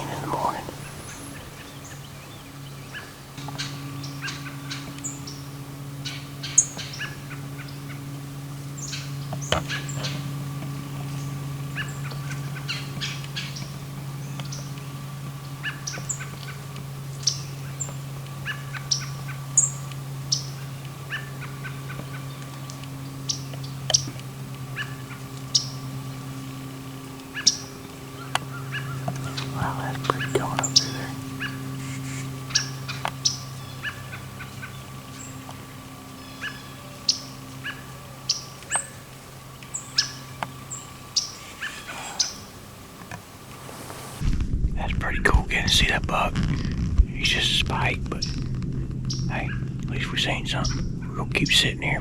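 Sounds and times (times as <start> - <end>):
small birds chirping: 0.0 - 44.2, 47.9 - 51.9
steady low hum: 0.0 - 52.0.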